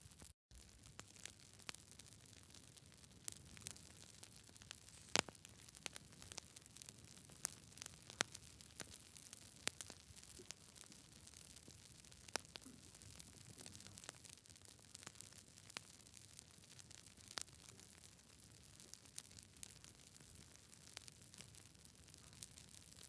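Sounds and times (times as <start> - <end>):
campfire crackling: 0.2 - 23.0.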